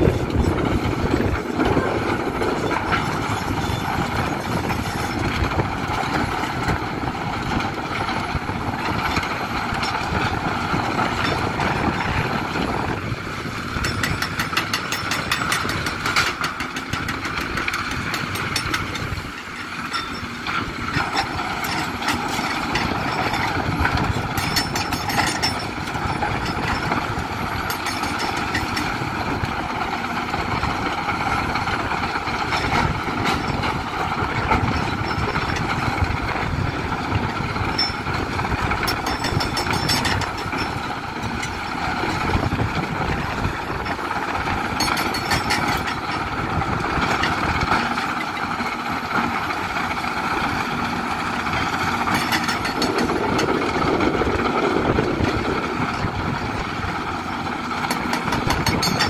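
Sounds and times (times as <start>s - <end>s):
diesel engines running: 0.0s - 59.0s
hydraulic breaker hammering rock: 0.0s - 59.0s.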